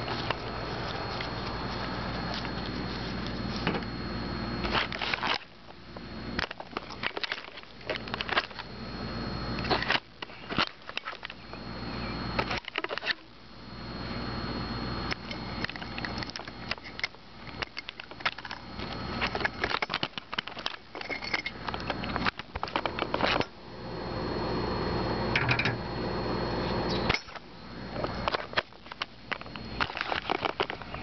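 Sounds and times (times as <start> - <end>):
faint high whine: 0.0 - 31.0
steady hum: 0.0 - 31.0.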